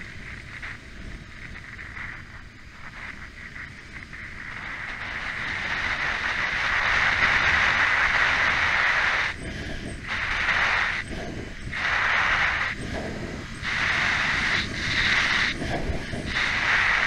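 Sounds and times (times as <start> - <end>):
wind rush on camera: 0.0 - 17.0.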